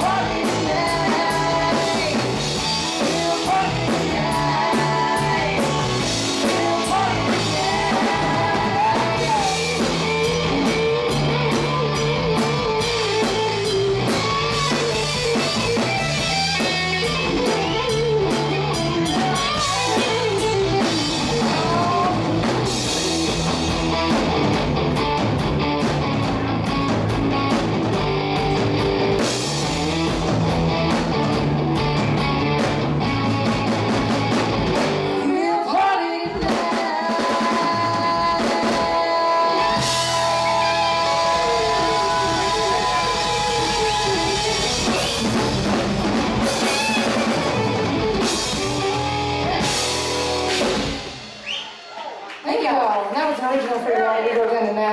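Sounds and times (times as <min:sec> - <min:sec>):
drum kit beat: 0:00.0 - 0:35.2, 0:36.2 - 0:52.2
electric bass: 0:00.0 - 0:35.3, 0:37.5 - 0:51.4
electric guitars: 0:00.0 - 0:51.5.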